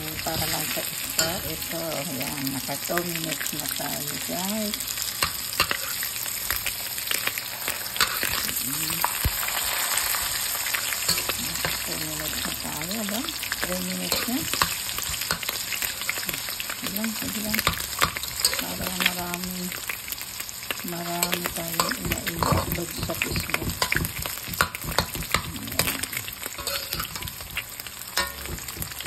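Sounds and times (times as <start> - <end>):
food sizzling and popping in oil: 0.0 - 29.0.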